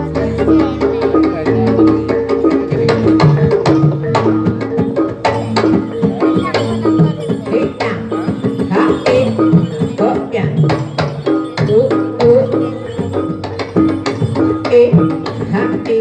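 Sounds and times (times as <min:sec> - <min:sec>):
drum strokes: 0:00.0 - 0:16.0
gamelan struck melody: 0:00.0 - 0:16.0.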